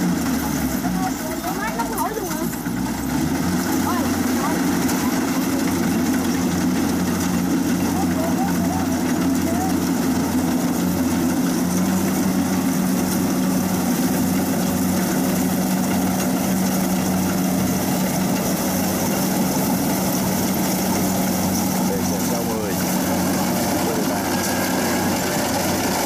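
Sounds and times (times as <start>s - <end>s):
diesel engine humming: 0.0s - 26.0s
machinery noise: 0.0s - 26.0s.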